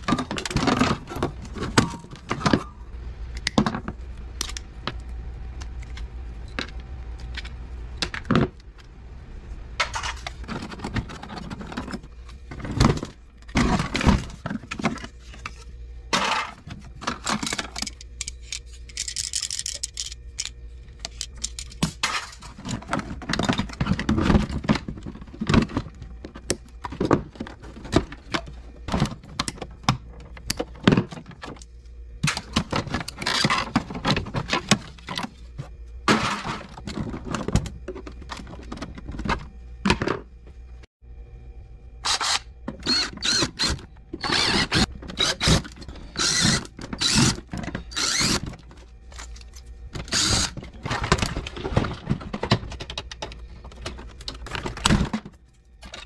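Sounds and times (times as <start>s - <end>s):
plastic and metal parts clattering: 0.0s - 2.8s, 9.8s - 40.3s, 42.1s - 56.0s.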